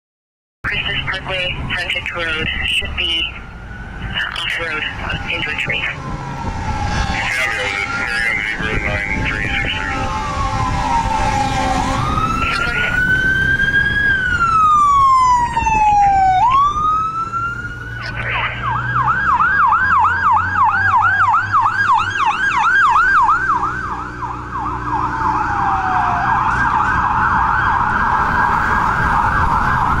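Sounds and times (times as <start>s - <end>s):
fire truck sirens wailing and yelping: 0.7s - 30.0s.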